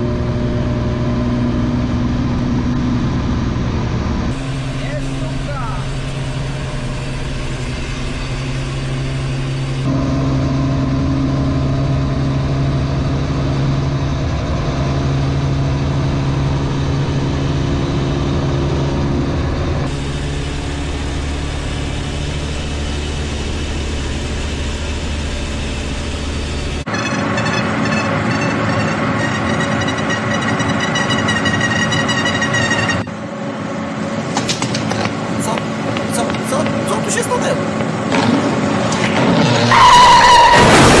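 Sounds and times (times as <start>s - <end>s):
van engine and road noise drone: 0.0s - 41.0s.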